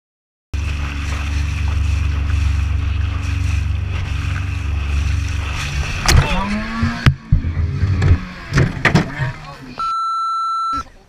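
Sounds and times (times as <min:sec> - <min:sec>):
outboard motor running: 0:00.6 - 0:09.8
water rushing along hull: 0:00.6 - 0:11.0.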